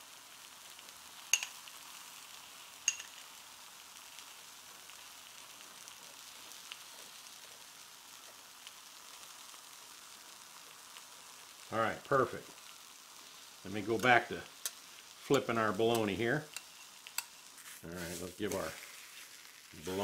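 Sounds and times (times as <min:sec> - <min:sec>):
meat sizzling on a griddle: 0:00.0 - 0:20.0.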